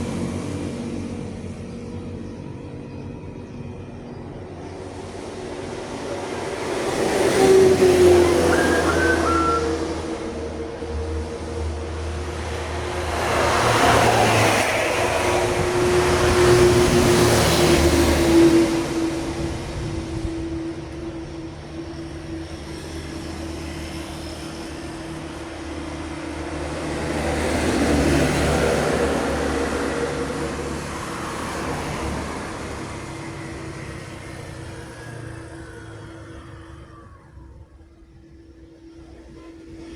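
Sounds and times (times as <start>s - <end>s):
engine droning nearby: 0.0s - 39.9s
heavy vehicles passing: 0.0s - 39.9s.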